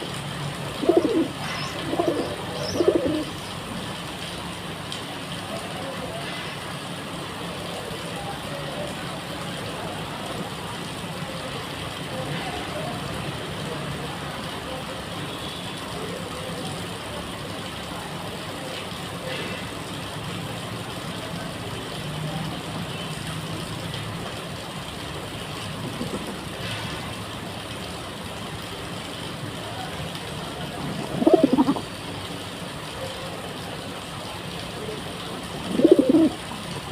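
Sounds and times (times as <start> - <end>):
road traffic hum: 0.0 - 36.9.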